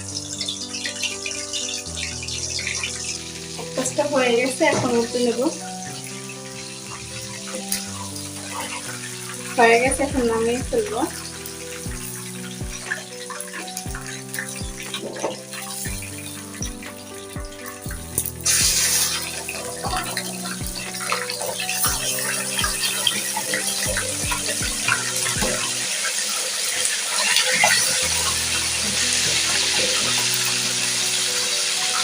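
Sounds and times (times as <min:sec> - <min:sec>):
background music: 0:00.0 - 0:32.0
chicken sizzling in hot oil: 0:00.0 - 0:32.0.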